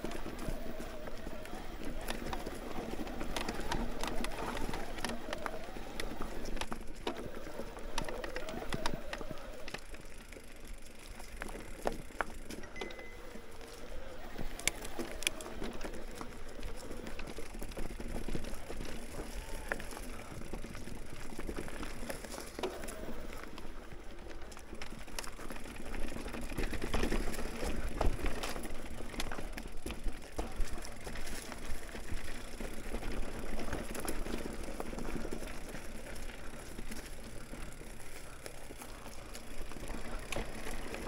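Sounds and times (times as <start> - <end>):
bike clicks and knocks: 0.0 - 41.0
bike tyre and drivetrain noise: 0.0 - 41.0.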